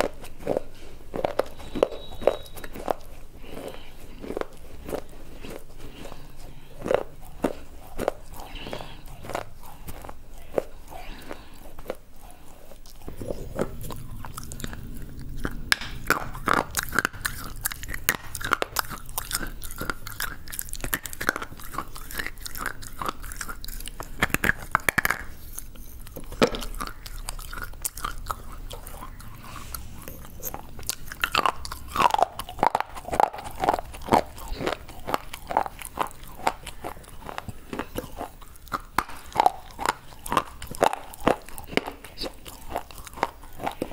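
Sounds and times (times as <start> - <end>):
crunching and snapping bites: 0.0 - 43.9.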